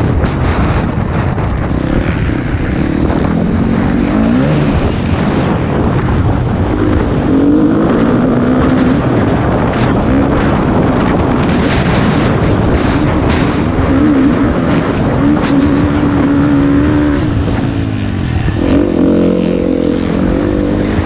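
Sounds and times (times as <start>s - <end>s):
motocross bike engine revving: 0.0s - 21.0s
wind buffeting microphone: 0.0s - 21.0s.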